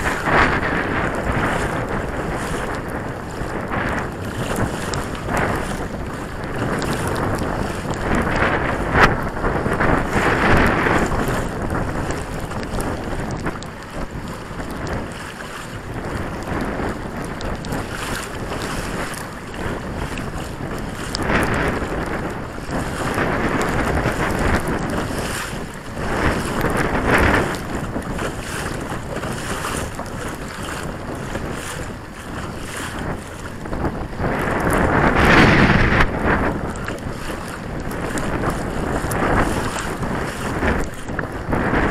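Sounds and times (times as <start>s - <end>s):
waves splashing against hull: 0.0s - 41.9s
wind buffeting microphone: 0.0s - 41.9s.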